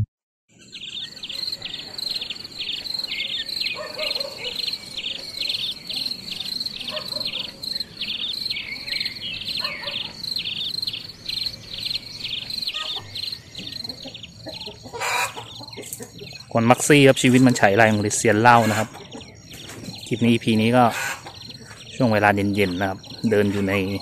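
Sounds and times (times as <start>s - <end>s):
faint lower insect calls: 0.5s - 24.0s
insects chirping: 0.5s - 24.0s.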